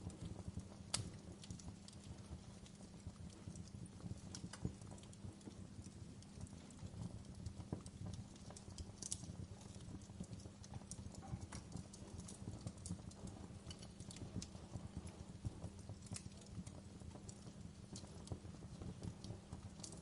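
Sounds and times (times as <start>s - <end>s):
fire rumbling: 0.0s - 20.0s
wood fire crackling: 0.0s - 20.0s.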